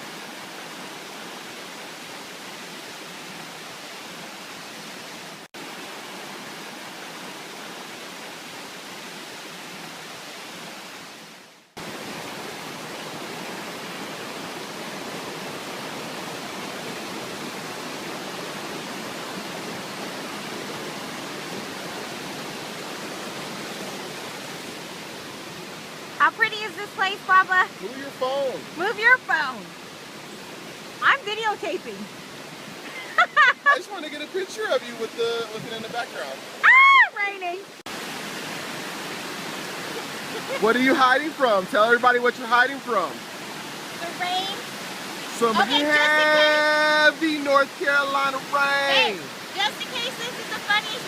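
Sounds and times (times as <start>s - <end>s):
rushing water hiss: 0.0s - 51.0s.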